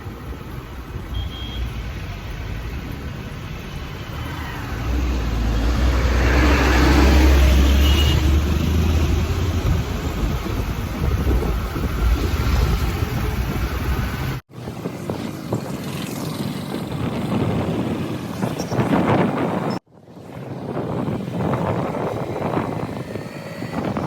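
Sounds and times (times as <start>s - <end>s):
road vehicle running: 0.0s - 19.6s
wind rumble on microphone: 1.8s - 24.0s.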